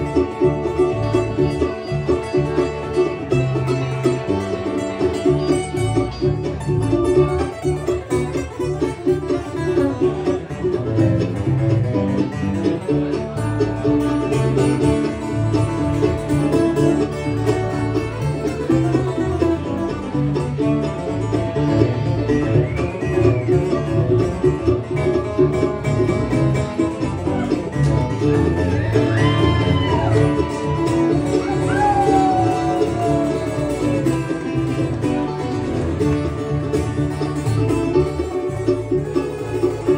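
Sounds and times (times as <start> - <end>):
country band instrumental: 0.0 - 39.9
plucked strings: 0.0 - 39.9
rhythmic bass line: 0.0 - 39.9.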